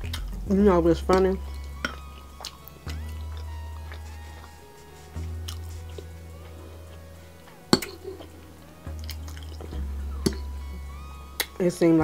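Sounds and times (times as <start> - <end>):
chewing and eating: 0.0 - 11.6
soft music with deep bass: 0.0 - 12.0.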